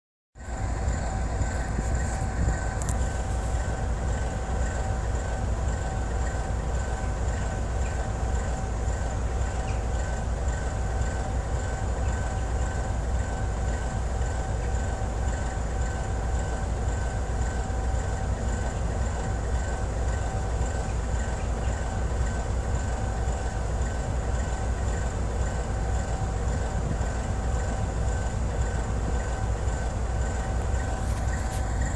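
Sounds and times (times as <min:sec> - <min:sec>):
diesel locomotive engine running: 0:00.4 - 0:31.9.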